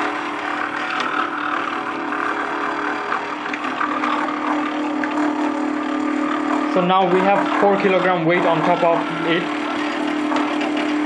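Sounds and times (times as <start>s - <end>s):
stepper motor whining: 0.0s - 11.0s.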